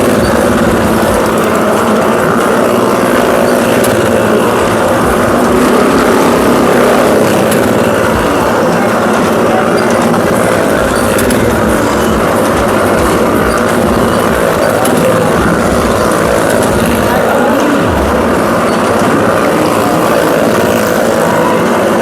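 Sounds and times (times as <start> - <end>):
car engine running: 0.0 - 22.0
motorcycle engine running: 0.0 - 22.0.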